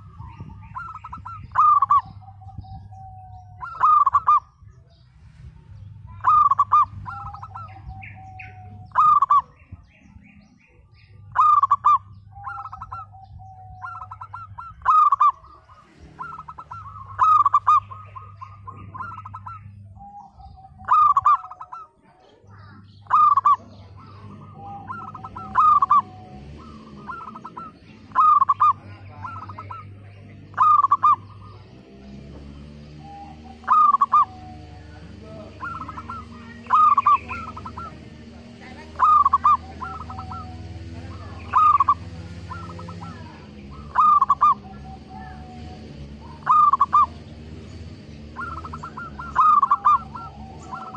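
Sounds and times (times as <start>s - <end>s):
dove cooing: 0.0s - 4.6s, 6.0s - 10.3s, 11.2s - 32.1s, 32.8s - 50.9s.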